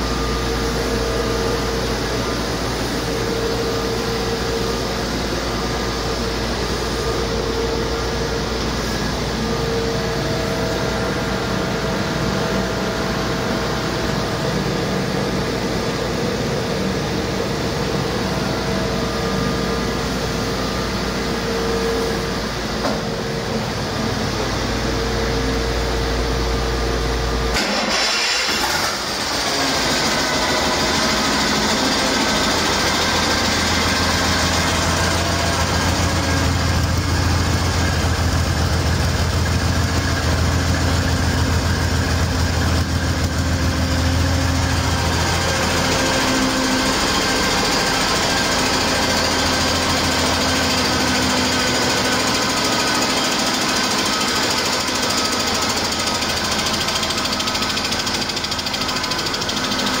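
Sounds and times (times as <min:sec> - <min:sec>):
diesel engine clattering: 0:00.0 - 1:00.0.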